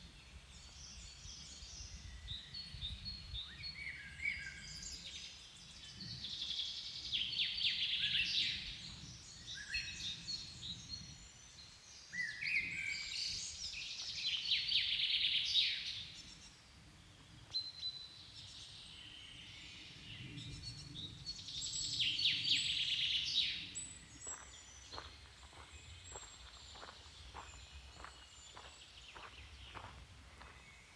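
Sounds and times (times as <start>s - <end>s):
low rumble of wind: 0.0s - 30.9s
songbird singing trills: 0.1s - 30.9s.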